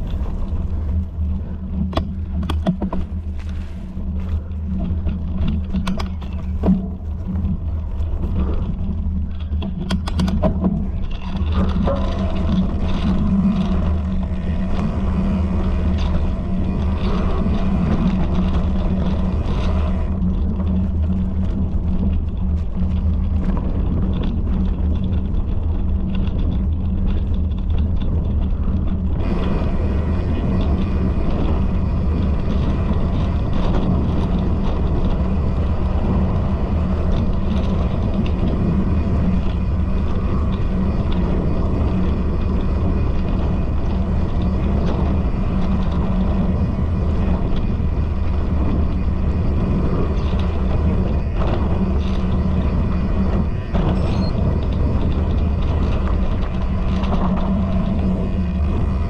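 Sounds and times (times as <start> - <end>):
low rumble with rattling: 0.0 - 59.0.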